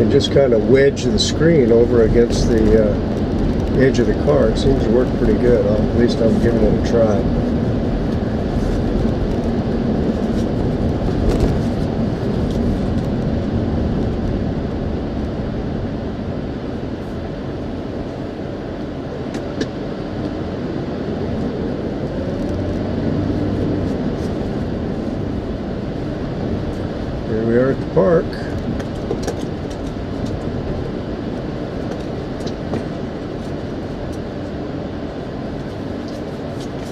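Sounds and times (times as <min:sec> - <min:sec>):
car road and engine noise: 0:00.0 - 0:36.9.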